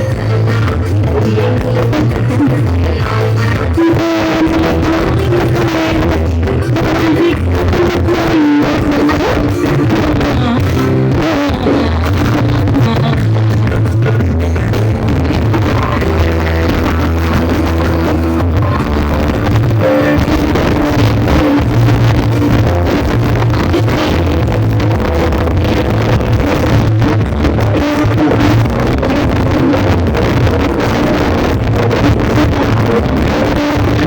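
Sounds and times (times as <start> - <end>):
loud music with heavy bass: 0.0 - 34.0.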